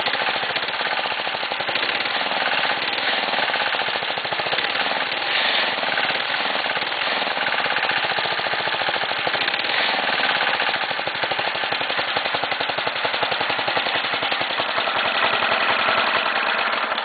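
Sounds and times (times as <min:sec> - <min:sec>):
small engine running fast: 0:00.0 - 0:17.0.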